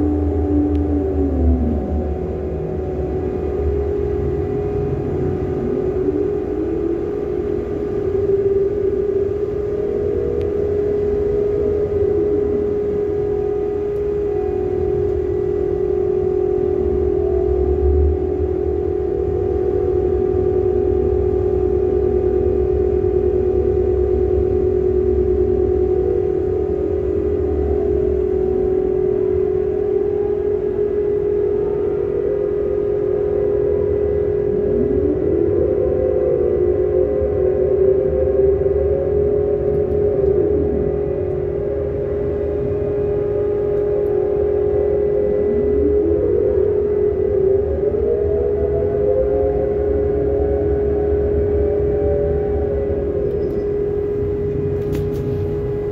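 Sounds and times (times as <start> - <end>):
deck crane machinery running: 0.0 - 55.9.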